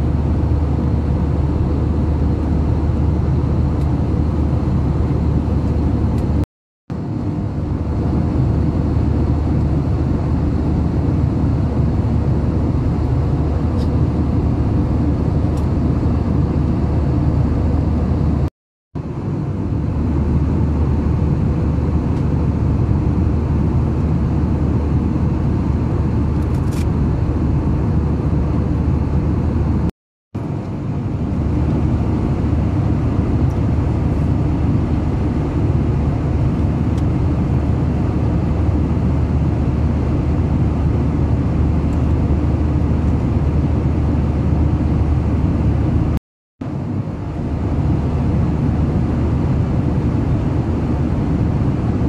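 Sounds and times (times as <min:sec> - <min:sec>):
jet airliner cabin rumble: 0:00.0 - 0:52.0.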